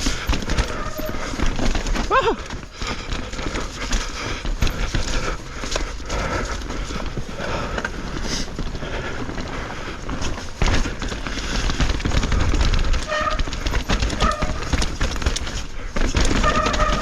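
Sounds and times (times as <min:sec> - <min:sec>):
mountain bike rattling: 0:00.0 - 0:17.0
tyre noise on trail: 0:00.0 - 0:17.0.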